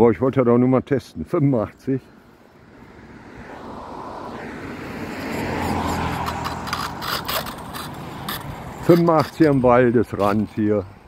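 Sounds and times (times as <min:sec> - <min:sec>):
car passing on road: 0:02.0 - 0:11.0.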